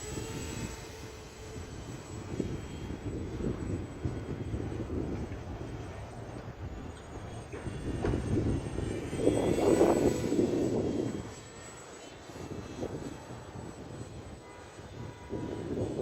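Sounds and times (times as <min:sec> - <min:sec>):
model airplane motor buzzing: 0:00.0 - 0:16.0.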